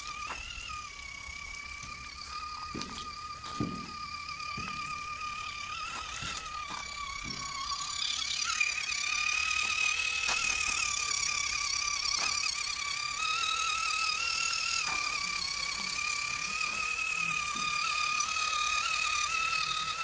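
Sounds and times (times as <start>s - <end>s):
toy truck electric motor whining: 0.0s - 20.0s.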